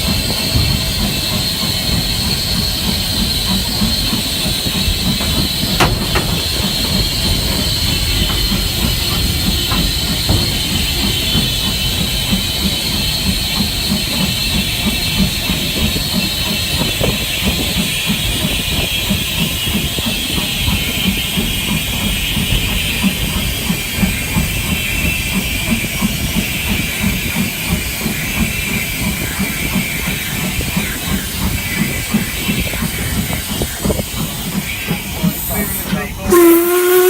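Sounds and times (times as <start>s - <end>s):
steady steam hiss: 0.0s - 37.0s
steam locomotive exhaust beats: 0.0s - 37.0s.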